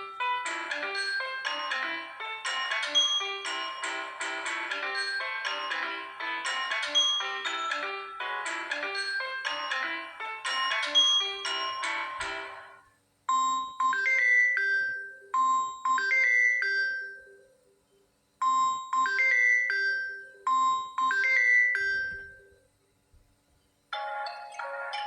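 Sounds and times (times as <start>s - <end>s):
phone ringtone melody: 0.0s - 17.4s, 18.4s - 22.5s, 23.9s - 25.0s.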